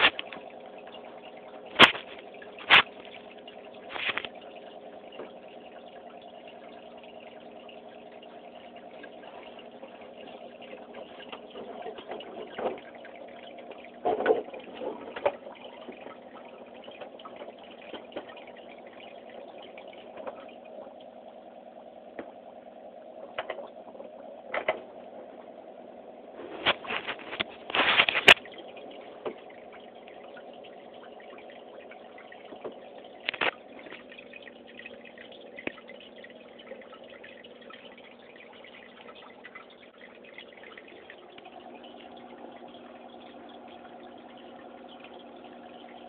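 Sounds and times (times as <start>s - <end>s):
aquarium pump humming: 0.0s - 46.0s
moving water: 0.0s - 46.0s.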